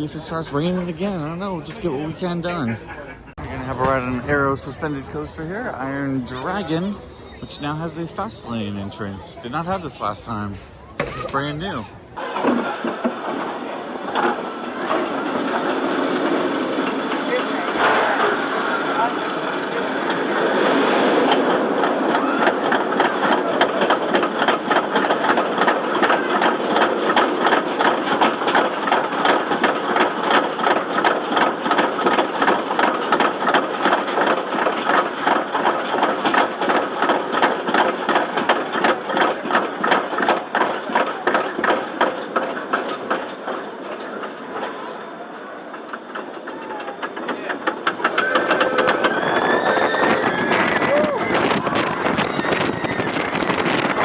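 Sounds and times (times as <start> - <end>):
roller coaster chain lift clicking: 0.0 - 54.0.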